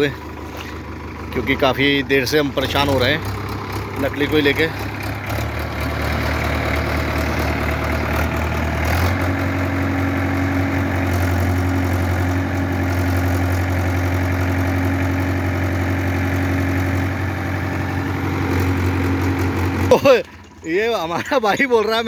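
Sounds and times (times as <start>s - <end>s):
tractor engine revving: 0.0s - 22.0s.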